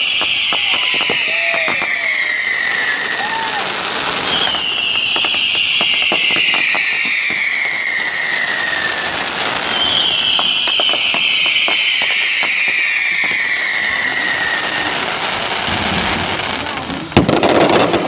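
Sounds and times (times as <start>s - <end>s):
firework whistle falling in pitch: 0.0s - 17.9s
crackling firework pops: 0.0s - 18.0s.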